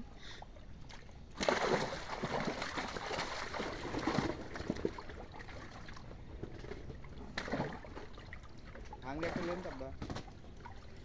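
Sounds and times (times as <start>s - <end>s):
pond water splashing: 0.8s - 11.0s.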